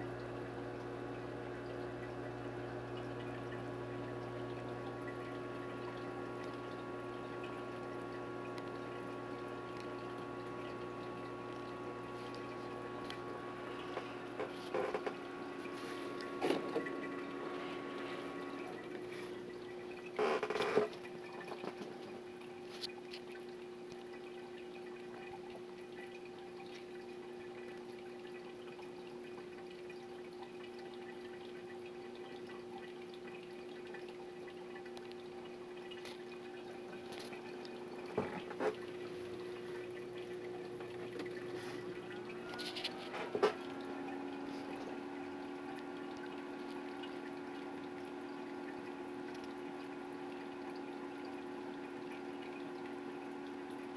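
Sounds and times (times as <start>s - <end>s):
aquarium pump hum: 0.0s - 53.9s
water trickling: 0.0s - 53.9s.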